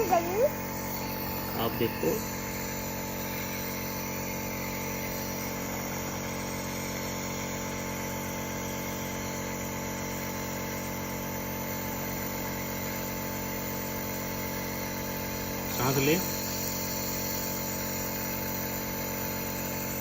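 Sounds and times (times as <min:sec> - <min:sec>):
nebulizer motor hum: 0:00.0 - 0:20.0.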